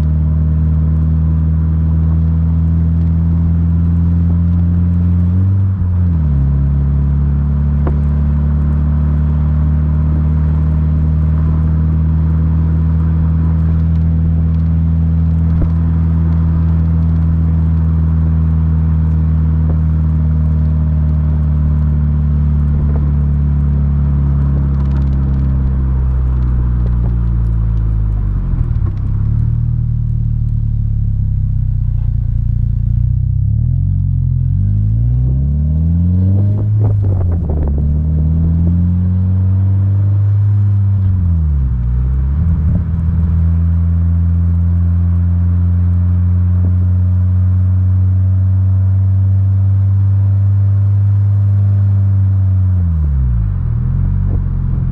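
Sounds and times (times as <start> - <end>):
car engine droning: 0.0 - 54.9.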